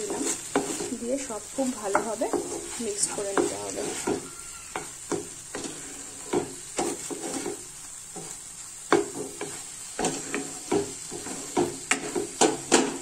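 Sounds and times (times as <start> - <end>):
light sizzle: 0.0 - 13.0
spatula knocking pan: 0.0 - 13.0
spatula scraping pan: 0.0 - 13.0.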